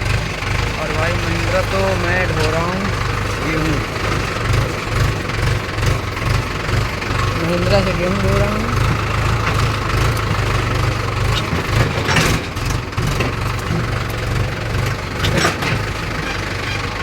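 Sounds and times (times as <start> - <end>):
tractor diesel engine running: 0.0 - 17.0
trolley rattling: 0.0 - 17.0.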